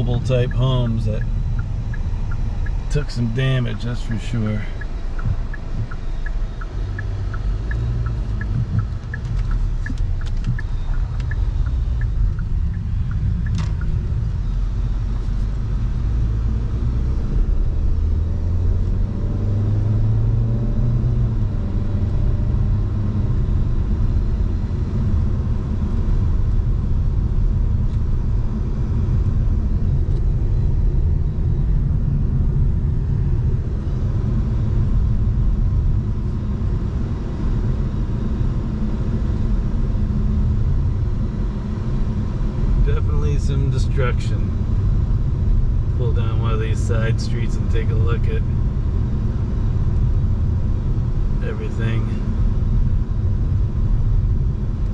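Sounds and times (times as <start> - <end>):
car engine and tyres rumbling: 0.0 - 54.9.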